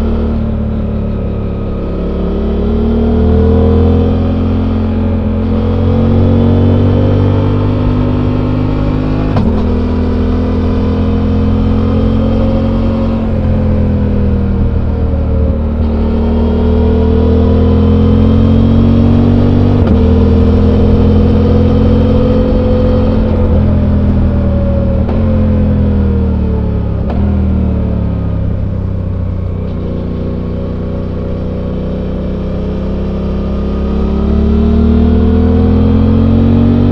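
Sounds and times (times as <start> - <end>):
motorcycle engine while riding: 0.0 - 36.9.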